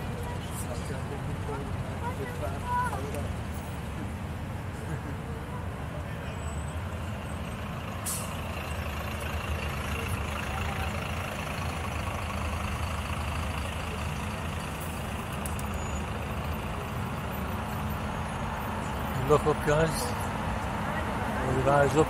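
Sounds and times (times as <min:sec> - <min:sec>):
heavy vehicle engine rumbling: 0:00.0 - 0:22.0
street traffic: 0:00.0 - 0:22.0.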